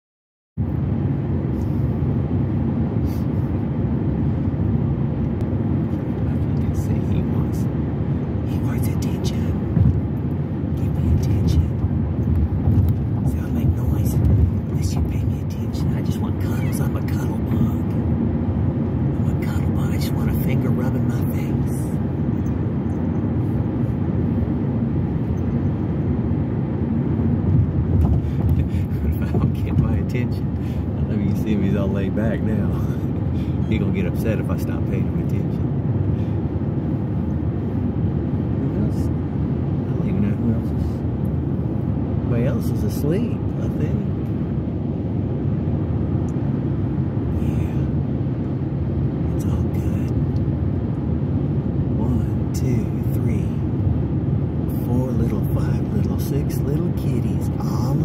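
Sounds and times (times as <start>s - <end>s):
car road and engine noise: 0.6s - 58.0s.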